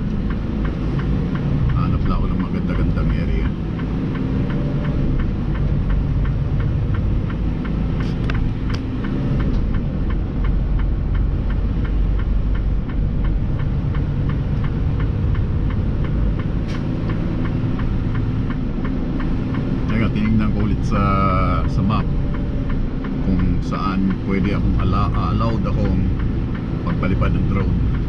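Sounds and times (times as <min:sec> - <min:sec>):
regular ticking: 0:00.0 - 0:28.0
truck engine rumble: 0:00.0 - 0:28.0.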